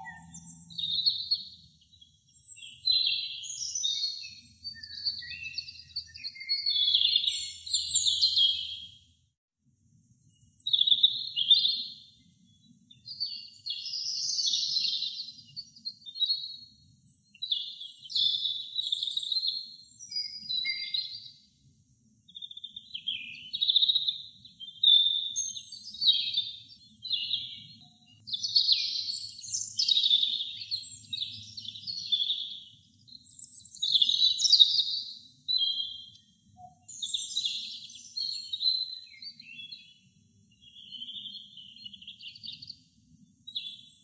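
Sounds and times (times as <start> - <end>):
robin singing: 0.0 - 9.0, 9.9 - 21.4, 22.3 - 44.0.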